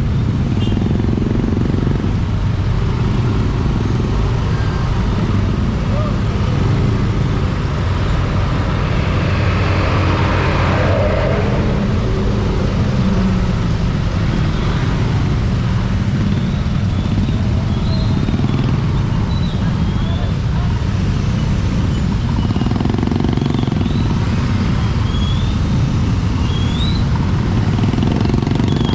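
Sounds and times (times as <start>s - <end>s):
motorcycle engine rumble: 0.0s - 28.9s
surrounding traffic: 0.0s - 28.9s.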